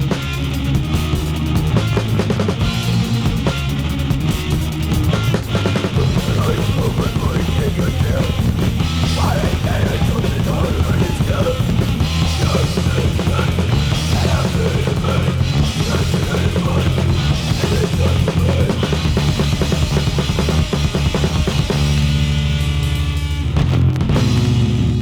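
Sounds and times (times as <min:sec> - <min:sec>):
distorted guitar wall: 0:00.0 - 0:25.0
drum kit: 0:00.0 - 0:25.0
punk rock music: 0:00.0 - 0:25.0.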